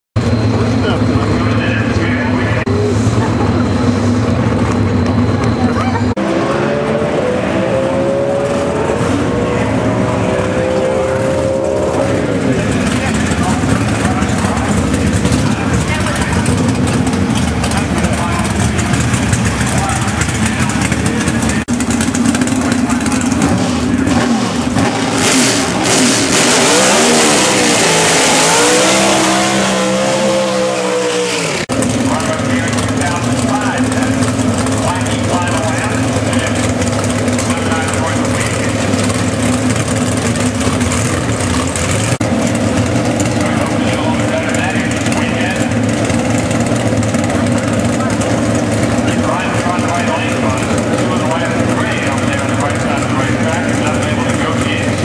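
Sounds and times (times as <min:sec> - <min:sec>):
drag racing engine running: 0:00.2 - 0:55.0.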